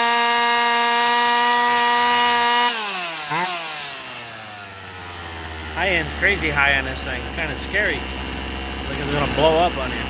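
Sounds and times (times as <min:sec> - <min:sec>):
chainsaw revving high: 0:00.0 - 0:10.0.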